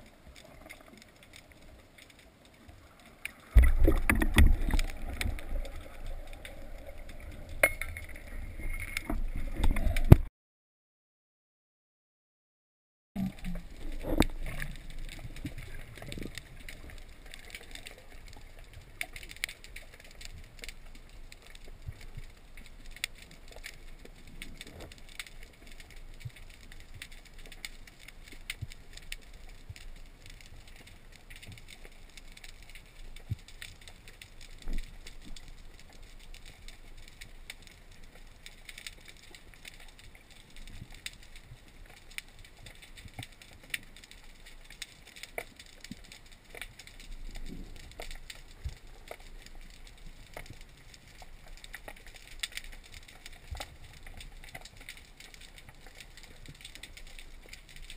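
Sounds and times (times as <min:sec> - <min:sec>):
underwater crackle of clicks: 0:00.0 - 0:10.3, 0:13.2 - 0:57.9.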